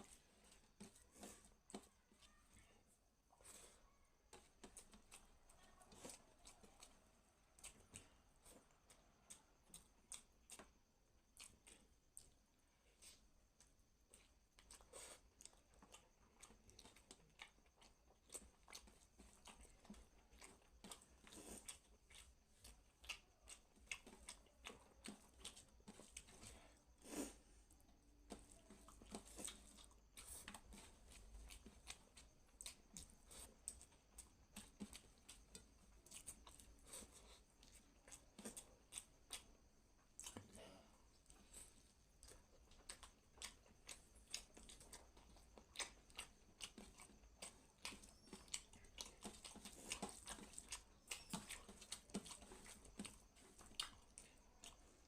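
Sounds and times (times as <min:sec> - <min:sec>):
chewing with wet mouth clicks: 0:03.4 - 0:55.0.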